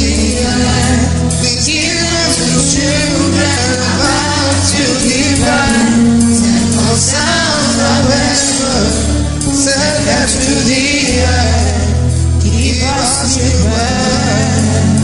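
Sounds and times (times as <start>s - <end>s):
band accompaniment: 0.0s - 15.0s
person singing: 0.0s - 15.0s.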